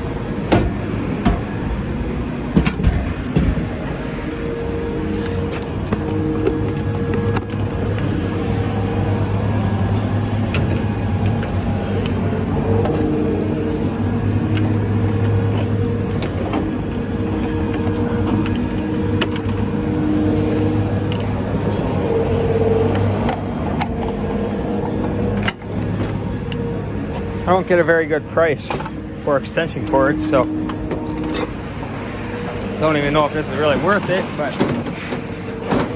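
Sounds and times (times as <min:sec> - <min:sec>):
engine humming: 0:00.0 - 0:35.9.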